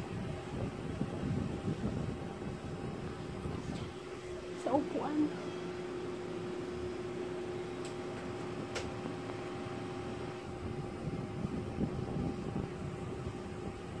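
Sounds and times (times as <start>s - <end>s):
appliance humming: 0.0s - 14.0s.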